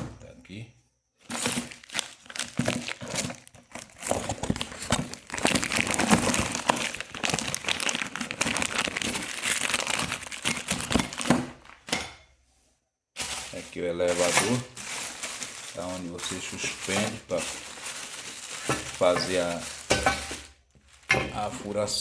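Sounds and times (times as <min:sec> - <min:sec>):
packaging crinkling by hand: 0:01.2 - 0:11.9, 0:13.2 - 0:22.0.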